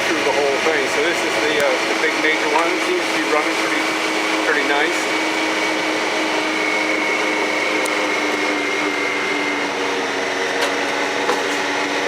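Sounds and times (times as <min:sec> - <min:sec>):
high whine: 0:00.0 - 0:12.0
small vehicle engine running: 0:00.0 - 0:12.0.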